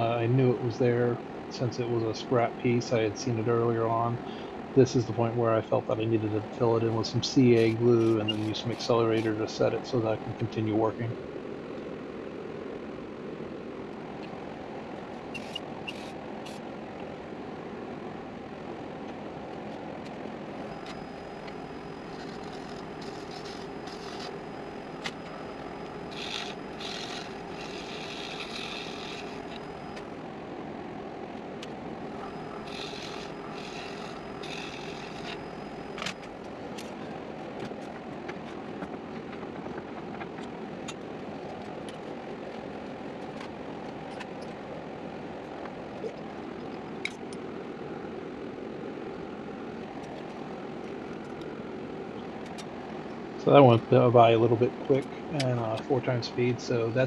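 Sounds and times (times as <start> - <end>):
woodworking machinery droning: 0.0 - 57.0.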